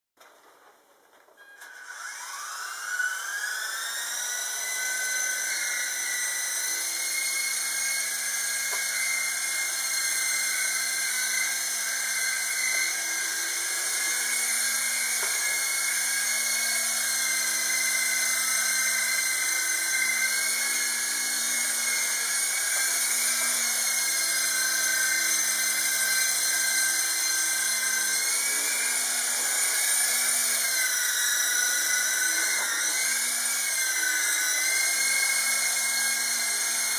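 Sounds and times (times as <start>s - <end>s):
toy helicopter motor whining: 1.5s - 36.9s.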